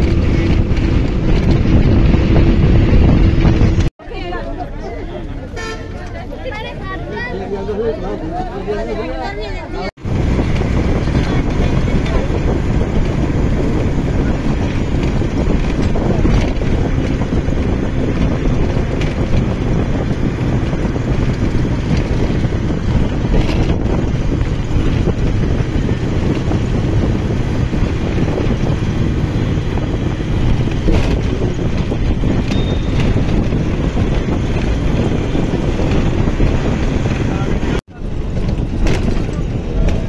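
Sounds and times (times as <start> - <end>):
wind buffeting microphone: 0.0 - 3.9, 9.9 - 40.0
bus engine and road noise: 0.0 - 40.0.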